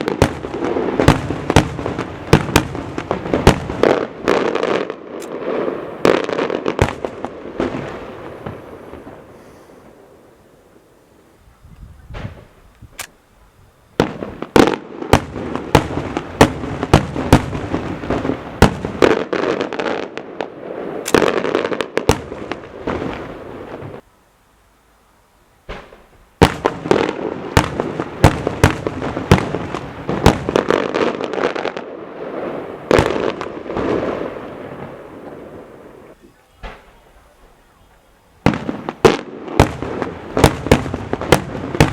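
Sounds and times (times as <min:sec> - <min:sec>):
fireworks bangs: 0:00.0 - 0:10.8, 0:12.0 - 0:13.0, 0:13.9 - 0:24.0, 0:25.6 - 0:41.9
fireworks crackle: 0:00.0 - 0:11.3, 0:13.9 - 0:24.1, 0:24.8 - 0:41.9.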